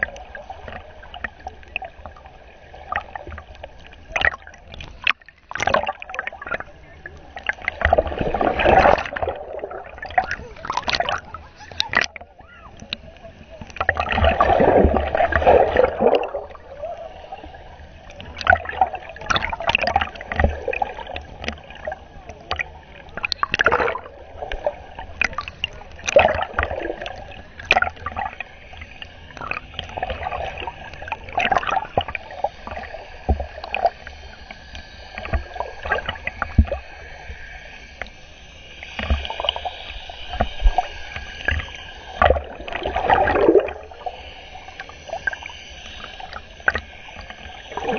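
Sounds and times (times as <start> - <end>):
churning splash: 0.0 - 37.0, 38.8 - 47.9
underwater sloshing and gurgling: 0.0 - 47.9.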